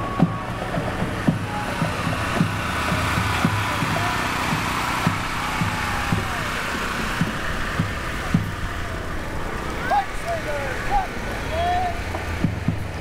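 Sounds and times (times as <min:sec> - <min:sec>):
low thumps: 0:00.0 - 0:09.7, 0:11.9 - 0:13.0
engine humming: 0:00.0 - 0:13.0.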